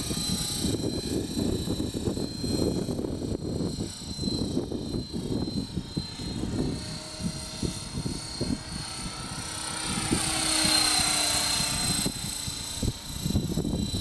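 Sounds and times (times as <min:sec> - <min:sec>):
rc helicopter motor whining: 0:00.0 - 0:14.0
wind rumbling on microphone: 0:00.0 - 0:14.0.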